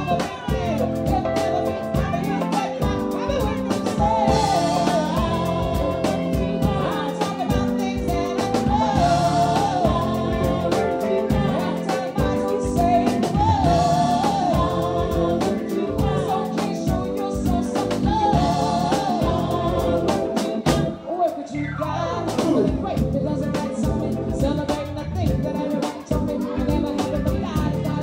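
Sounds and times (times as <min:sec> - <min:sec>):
drum kit steady beat: 0:00.0 - 0:21.5, 0:22.2 - 0:28.0
keyboards: 0:00.0 - 0:28.0
woman singing into a microphone: 0:00.0 - 0:28.0.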